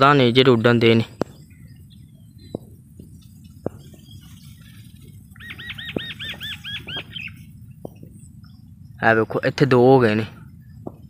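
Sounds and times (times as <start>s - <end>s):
bird calling: 0.0s - 11.0s
low background hum: 0.0s - 11.0s.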